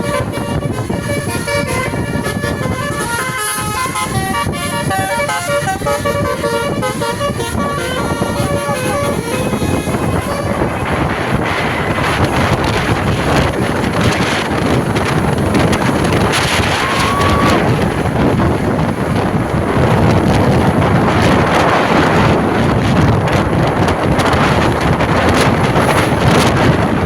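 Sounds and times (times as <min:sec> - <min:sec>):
moving vehicle running noise: 0:00.0 - 0:27.0
wind buffeting microphone: 0:00.0 - 0:27.0.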